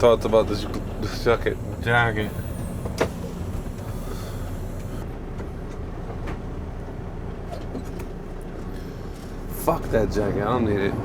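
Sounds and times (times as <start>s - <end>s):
semi truck driving on road: 0.0s - 11.0s.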